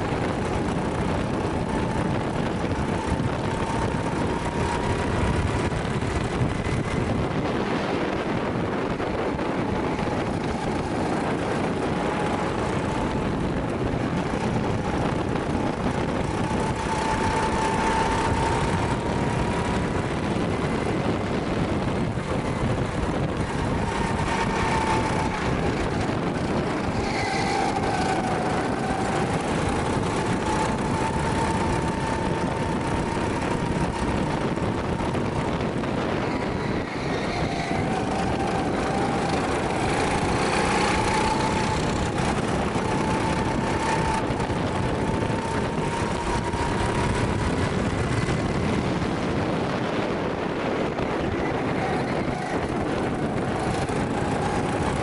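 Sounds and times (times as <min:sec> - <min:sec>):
go-kart motor whine: 0:00.0 - 0:55.0
wind noise: 0:00.0 - 0:55.0.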